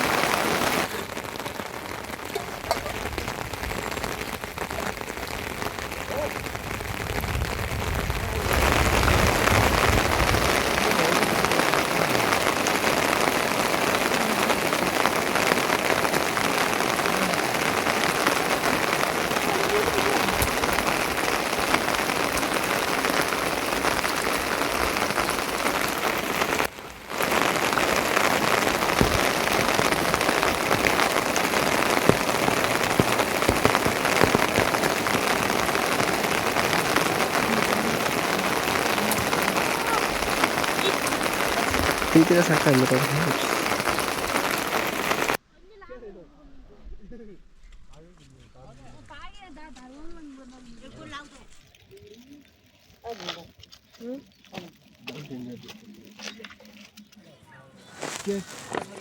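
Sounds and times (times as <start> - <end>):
steady rain falling: 0.0 - 45.4, 50.2 - 57.1, 57.8 - 59.0.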